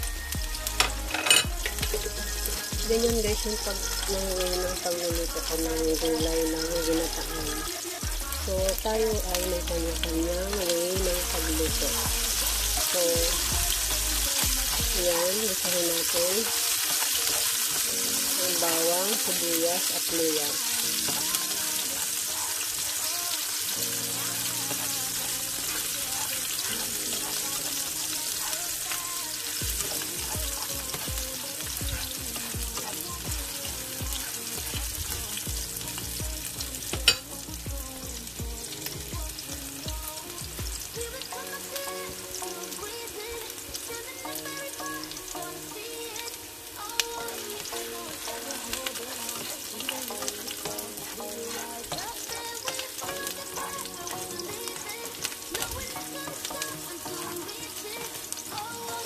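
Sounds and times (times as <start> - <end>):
vegetables sizzling in hot oil: 0.0 - 59.0.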